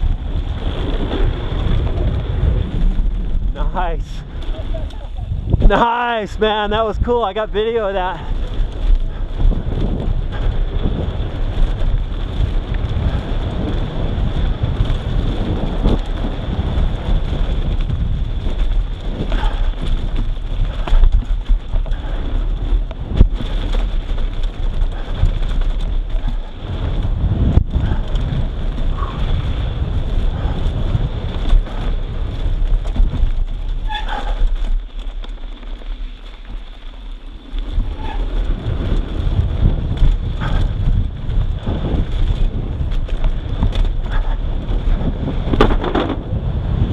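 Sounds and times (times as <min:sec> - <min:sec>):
bike tyres rumbling on dirt: 0:00.0 - 0:46.9
wind buffeting microphone: 0:00.0 - 0:46.9.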